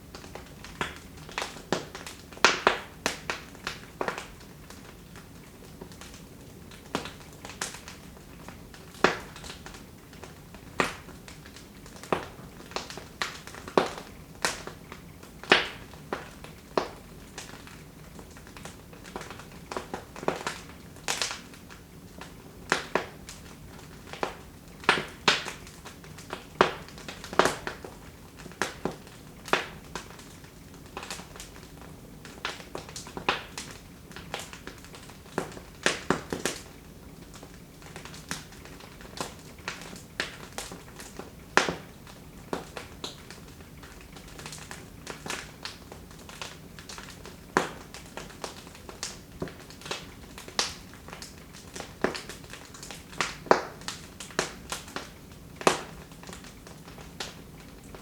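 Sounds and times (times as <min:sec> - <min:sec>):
faint hiss of burning: 0:00.0 - 0:58.0
fire crackling with pops and snaps: 0:00.0 - 0:58.0.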